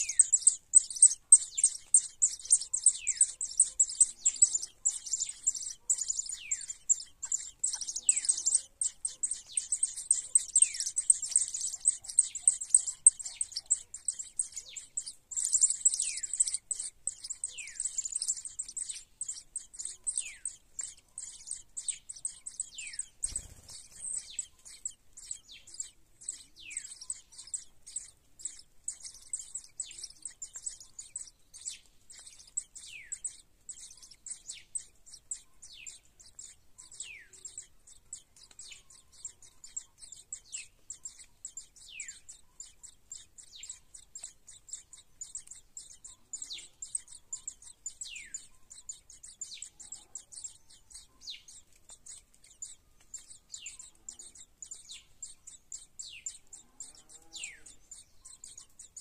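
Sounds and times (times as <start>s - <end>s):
birds chirping rapidly: 0.0s - 59.0s.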